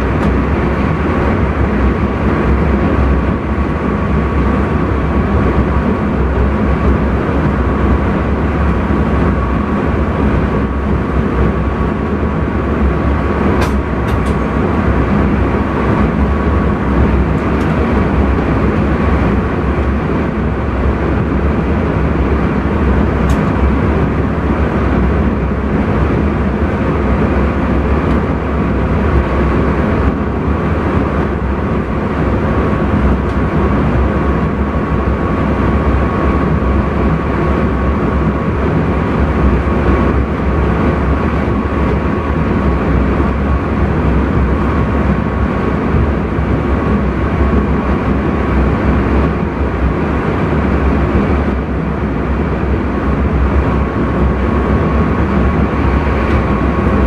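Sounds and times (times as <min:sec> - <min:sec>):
train rumbling and rolling: 0:00.0 - 0:57.0.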